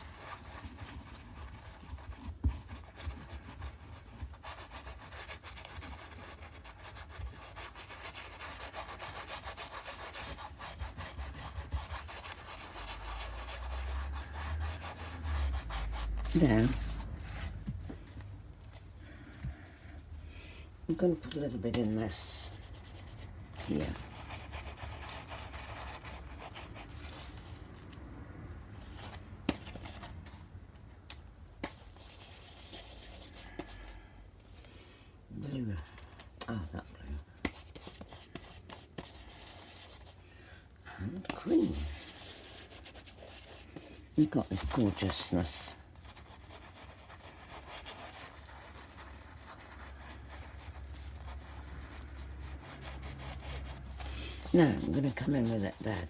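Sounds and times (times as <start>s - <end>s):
paintbrush scratchy strokes: 0.0s - 20.0s, 21.4s - 30.3s, 31.9s - 34.1s, 36.8s - 40.2s, 41.0s - 56.0s.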